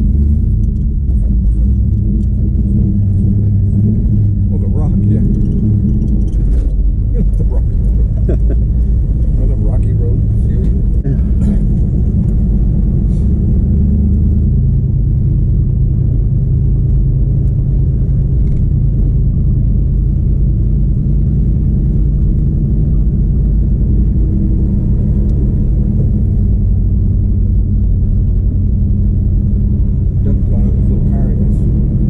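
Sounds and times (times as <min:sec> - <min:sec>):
car engine rumbling at cruise: 0:00.0 - 0:32.0.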